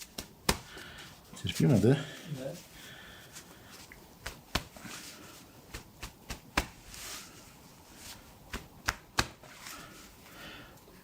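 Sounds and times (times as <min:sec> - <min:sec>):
hands rubbing on skin and cloth: 0:00.0 - 0:10.2.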